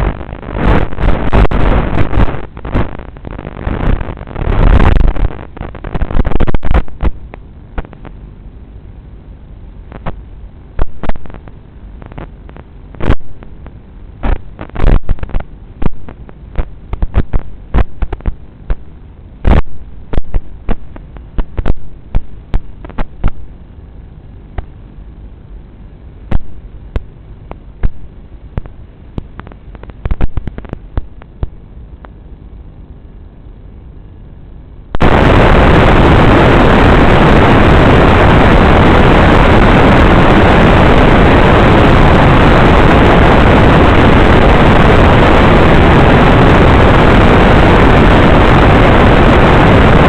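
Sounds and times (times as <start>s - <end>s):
sharp crackling pops and clicks: 0.0s - 8.2s, 9.9s - 23.6s, 24.5s - 24.8s, 26.2s - 32.3s, 34.9s - 50.0s
low hum: 0.0s - 50.0s.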